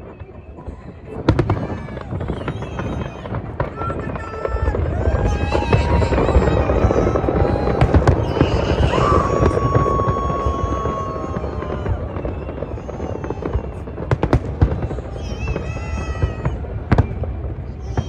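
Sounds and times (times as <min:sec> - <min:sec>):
fireworks bangs: 0:00.0 - 0:18.0
fireworks whistling: 0:00.0 - 0:18.0.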